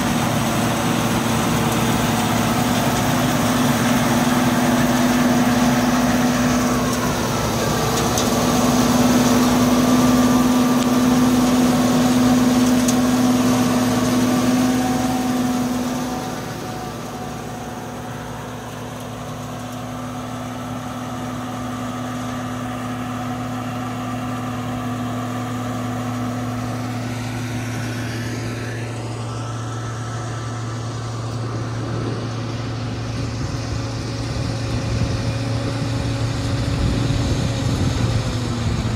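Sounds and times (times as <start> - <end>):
harvester engine running: 0.0 - 38.9.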